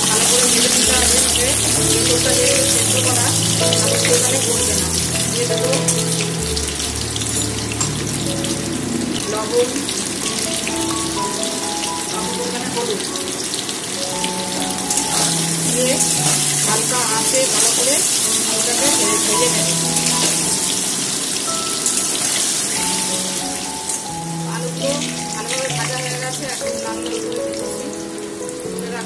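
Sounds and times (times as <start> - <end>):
potatoes sizzling in hot oil: 0.0 - 29.0
soft instrumental music: 0.0 - 29.0.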